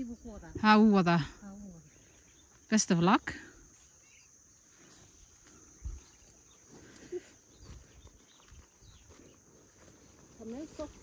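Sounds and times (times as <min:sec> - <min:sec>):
high insect chirring: 0:00.0 - 0:11.0.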